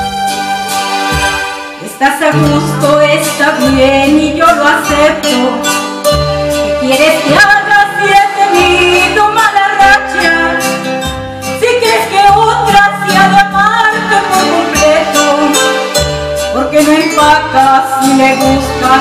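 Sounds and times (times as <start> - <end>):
woman singing into a microphone: 1.8 - 5.9, 6.6 - 19.0.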